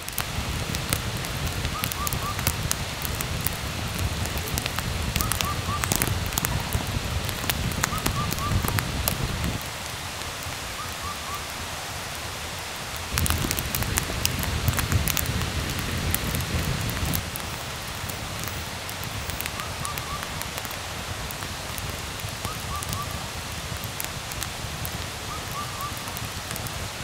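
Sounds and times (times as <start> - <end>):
rain pattering on a tent: 0.0 - 27.0.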